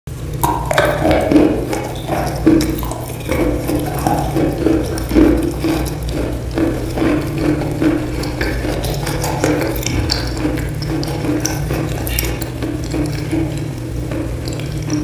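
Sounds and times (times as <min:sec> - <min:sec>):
low steady hum: 0:00.1 - 0:15.0
crunchy chewing: 0:00.2 - 0:15.0.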